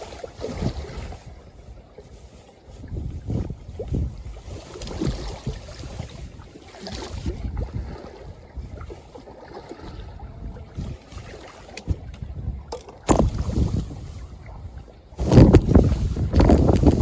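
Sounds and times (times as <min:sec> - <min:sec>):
lake water slapping against shore: 0:00.0 - 0:17.0
wind buffeting microphone: 0:00.0 - 0:17.0.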